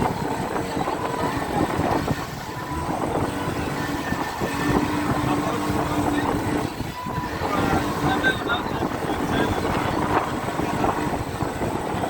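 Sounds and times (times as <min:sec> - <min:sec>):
boat engine running: 0:00.0 - 0:12.0
wind on microphone: 0:00.0 - 0:12.0.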